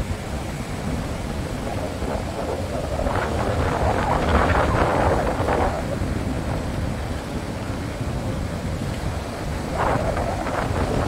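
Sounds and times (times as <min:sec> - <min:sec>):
surf washing up beach: 0:00.0 - 0:11.0
wind buffeting microphone: 0:00.0 - 0:11.0.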